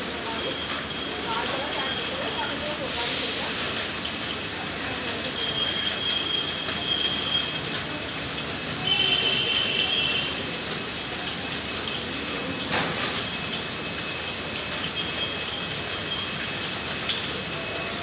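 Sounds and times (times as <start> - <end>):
train coaches rolling: 0.0 - 8.8, 10.4 - 18.0
heavy rain: 0.0 - 18.0.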